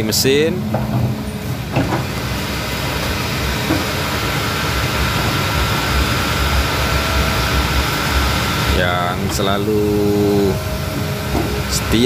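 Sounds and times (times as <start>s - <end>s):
excavator diesel engine running: 0.0s - 12.0s
steady high tone: 0.0s - 12.0s.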